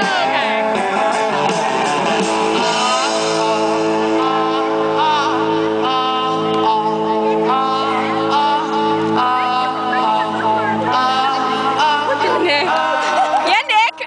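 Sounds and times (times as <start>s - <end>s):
rock music with singer and guitar: 0.0s - 13.5s.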